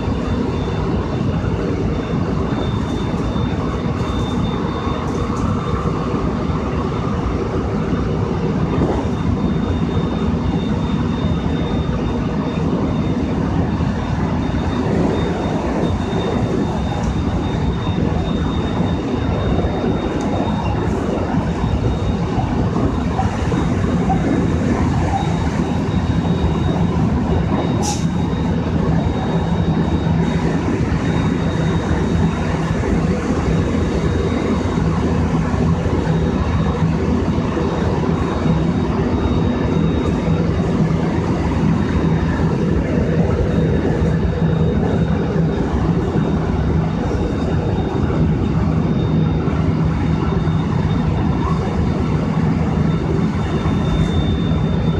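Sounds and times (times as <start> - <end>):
train running at high speed: 0.0 - 54.9.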